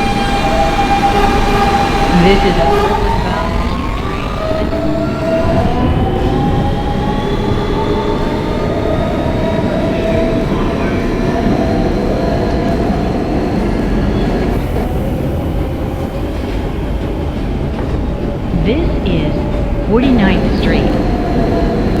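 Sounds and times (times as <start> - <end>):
rumble of wheels on rail: 0.0 - 22.0
whine of train propulsion: 0.0 - 22.0.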